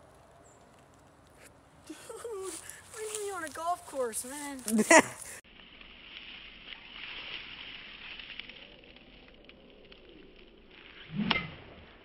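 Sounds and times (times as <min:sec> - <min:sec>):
faint crackling noise: 0:00.0 - 0:12.0.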